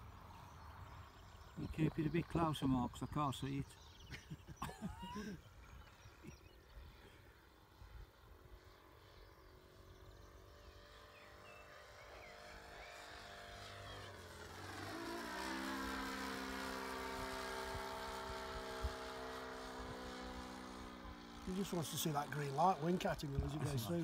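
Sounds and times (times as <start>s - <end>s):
model aircraft engine buzzing: 0.0s - 24.0s.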